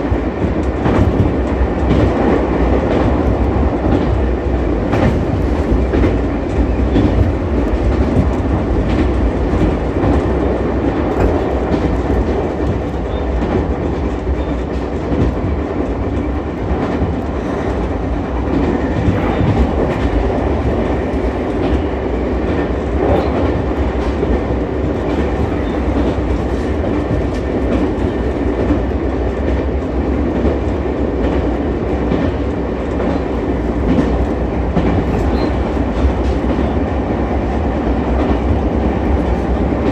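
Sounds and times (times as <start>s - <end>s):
rail-joint clicks: 0.0s - 39.9s
train wheels rumbling on rail: 0.0s - 39.9s.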